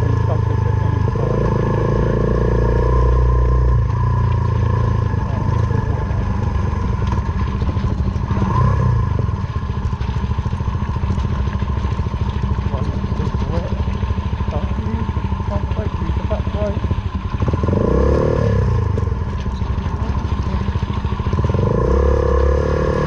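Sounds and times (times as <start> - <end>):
motorcycle engine running: 0.0 - 23.0
motorcycle clattering: 3.1 - 22.7.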